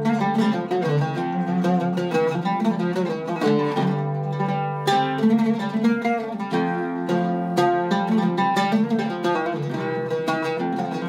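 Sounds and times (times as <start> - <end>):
oud playing plucked notes: 0.0 - 11.0.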